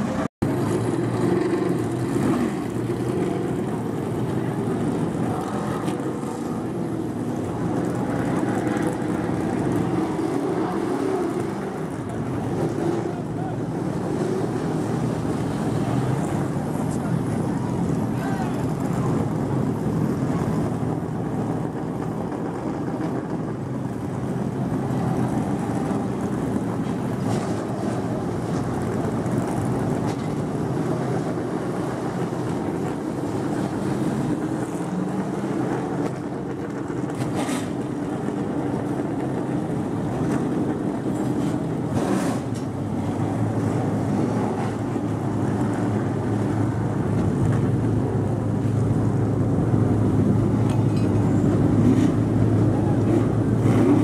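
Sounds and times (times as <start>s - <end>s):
low rumble of vehicle engines: 0.0s - 54.0s.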